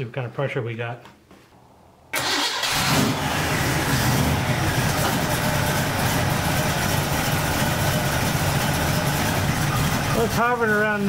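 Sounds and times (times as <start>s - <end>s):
car engine idling: 2.1s - 11.0s.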